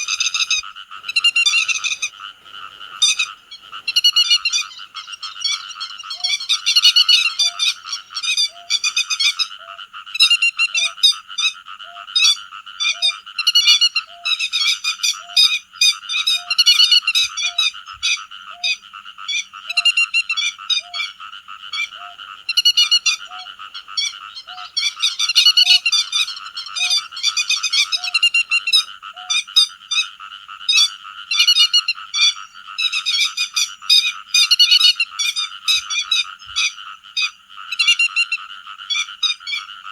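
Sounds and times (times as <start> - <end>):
lapwings calling: 0.0 - 30.1, 30.7 - 39.7.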